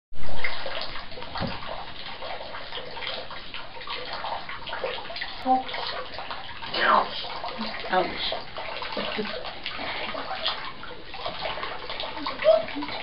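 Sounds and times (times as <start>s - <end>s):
parrot splashing in water: 0.3s - 13.0s.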